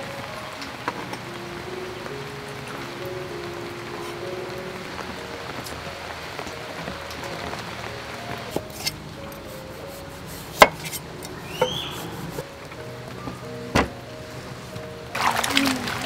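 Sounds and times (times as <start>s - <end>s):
rain-like hiss: 0.0s - 16.0s
soft background music: 0.0s - 16.0s.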